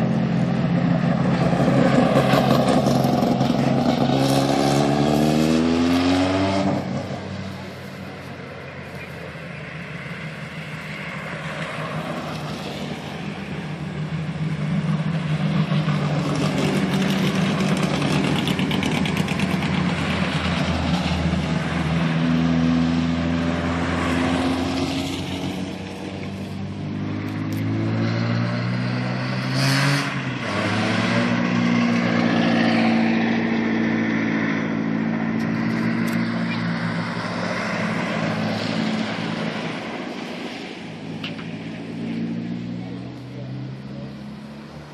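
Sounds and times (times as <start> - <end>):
race car engines revving: 0.0 - 44.9.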